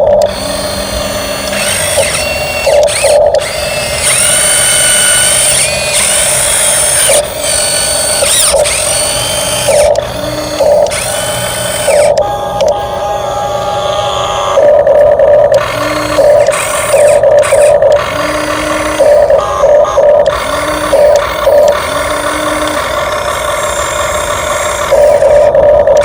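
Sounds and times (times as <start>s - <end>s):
toy truck electric motor whining: 0.0s - 26.0s.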